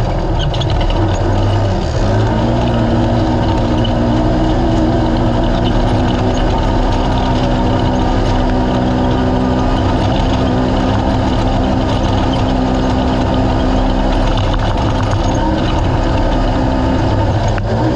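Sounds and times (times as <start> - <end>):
constant rushing noise: 0.0 - 17.9
engine running loud: 0.0 - 17.9.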